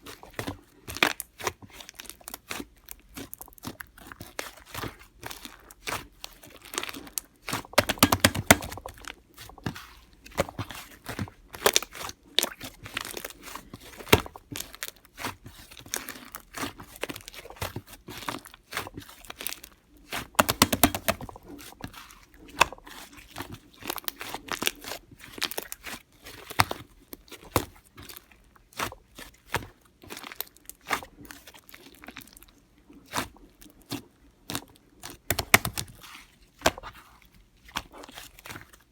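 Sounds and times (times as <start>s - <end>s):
slime squishing with pops: 0.0s - 32.2s, 33.1s - 37.1s.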